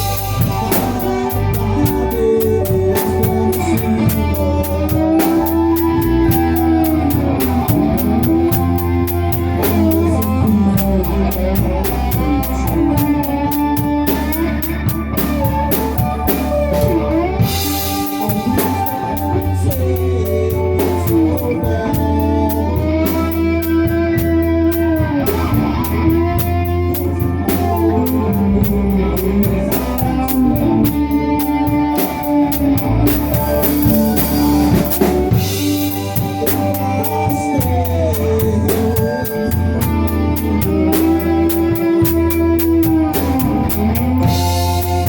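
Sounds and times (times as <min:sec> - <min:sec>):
drum kit beat: 0:00.0 - 0:45.0
electric guitar lines: 0:00.0 - 0:45.0
steady bass: 0:00.0 - 0:45.0.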